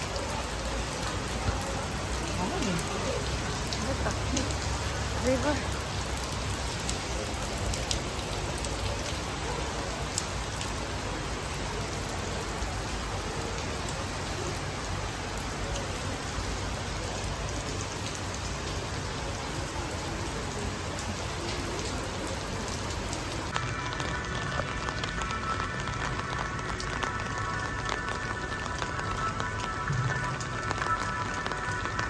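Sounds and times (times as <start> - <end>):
rain drop clicks: 0.0 - 32.0
rain on tent canopy: 0.0 - 32.0.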